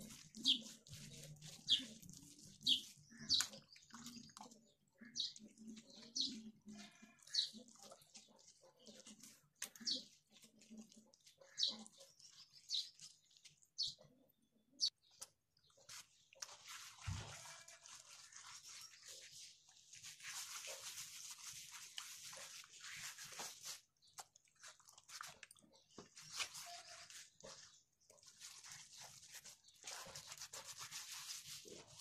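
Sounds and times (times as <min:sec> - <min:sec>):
hand smearing wet clay: 0:00.0 - 0:32.0.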